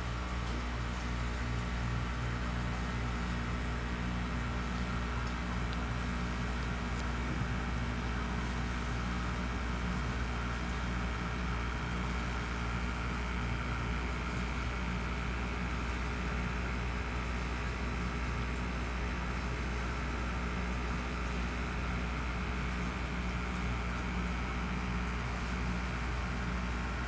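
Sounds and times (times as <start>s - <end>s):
aquarium equipment humming and hissing: 0.0s - 27.0s.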